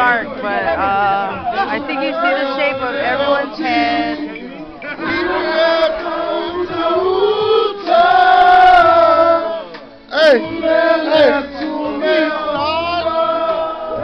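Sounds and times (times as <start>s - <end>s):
men singing loudly together: 0.0s - 14.0s.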